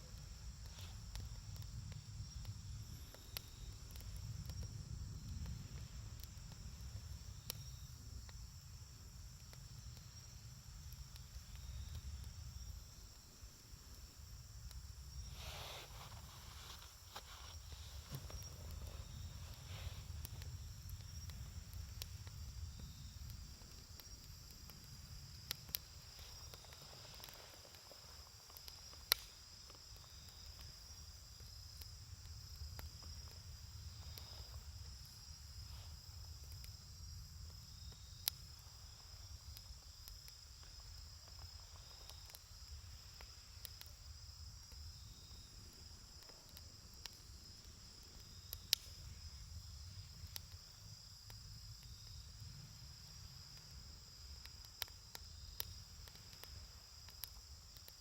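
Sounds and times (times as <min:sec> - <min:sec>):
campfire crackling and popping: 0:00.0 - 0:58.0
crickets trilling: 0:00.0 - 0:58.0.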